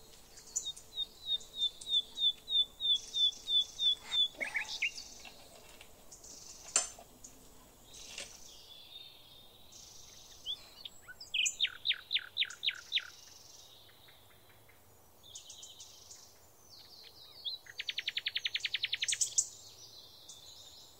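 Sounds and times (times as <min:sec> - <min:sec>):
small birds singing: 0:00.0 - 0:20.9.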